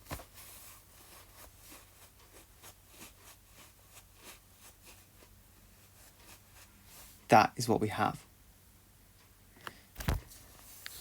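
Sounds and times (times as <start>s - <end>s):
faint light ticks and scratches: 0.0s - 7.3s, 9.2s - 11.0s.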